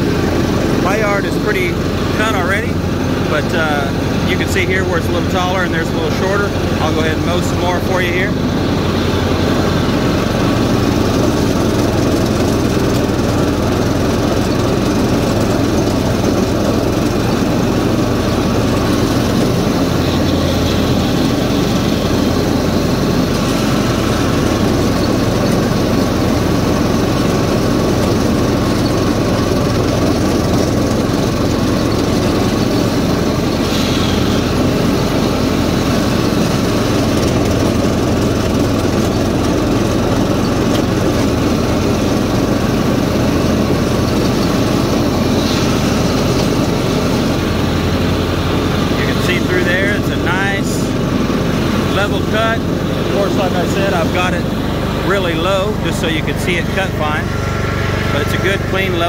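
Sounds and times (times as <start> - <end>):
riding mower engine mowing grass: 0.0 - 59.0.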